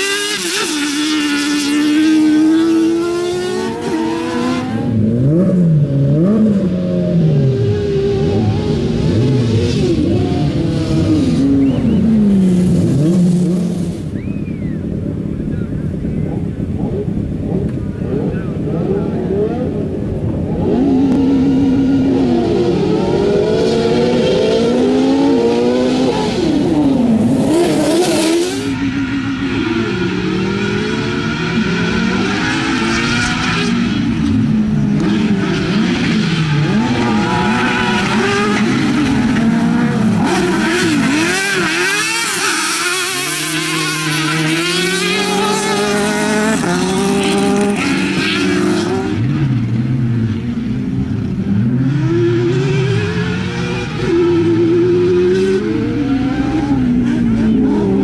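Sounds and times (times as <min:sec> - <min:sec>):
buggy engines revving: 0:00.0 - 0:58.0.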